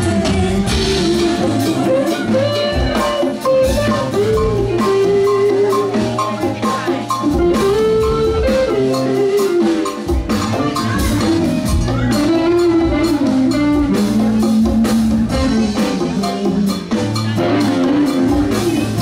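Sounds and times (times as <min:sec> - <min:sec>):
bass: 0:00.0 - 0:19.0
drum kit: 0:00.0 - 0:19.0
electric guitar: 0:00.0 - 0:19.0
lead melody bending in pitch: 0:00.0 - 0:19.0.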